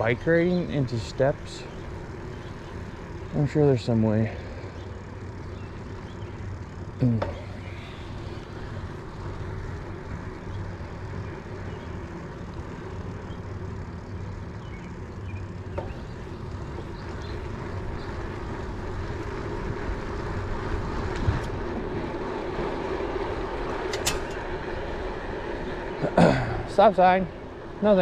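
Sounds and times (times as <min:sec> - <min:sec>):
wind and bicycle tyre noise: 0:00.0 - 0:28.0.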